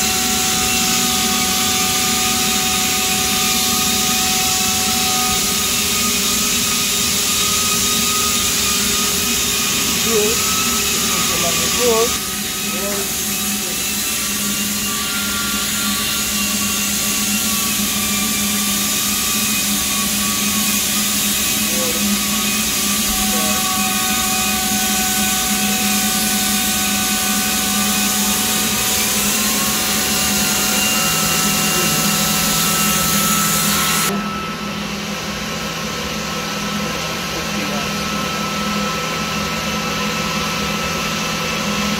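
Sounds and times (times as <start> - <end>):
shop machinery whirring and hissing: 0.0 - 41.9.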